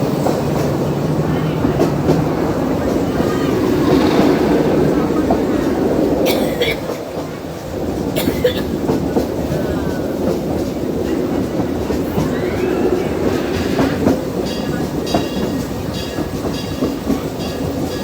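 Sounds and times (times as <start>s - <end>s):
train wheels clacking on rails: 0.0s - 18.0s.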